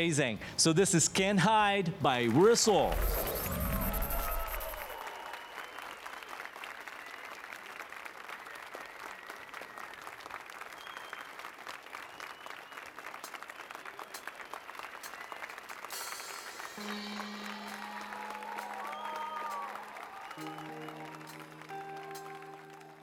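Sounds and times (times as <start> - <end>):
audience applauding: 2.2 - 23.0.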